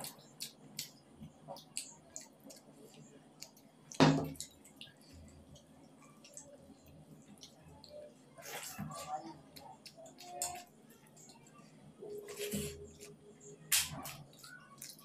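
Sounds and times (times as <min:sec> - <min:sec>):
fingers mixing wet food: 0:00.0 - 0:11.5, 0:12.3 - 0:15.0.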